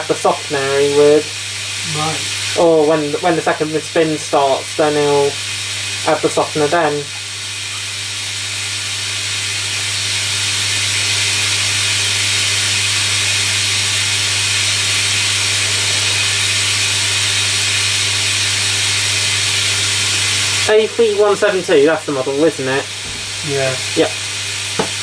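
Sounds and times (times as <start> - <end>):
washing machine hum and watery hiss: 0.0 - 25.0.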